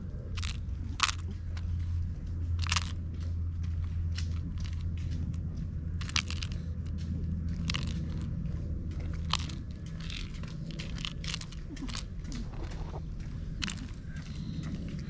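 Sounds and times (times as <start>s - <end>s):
scratchy clicks and crackles: 0.0s - 15.0s
steady low hum: 0.0s - 15.0s.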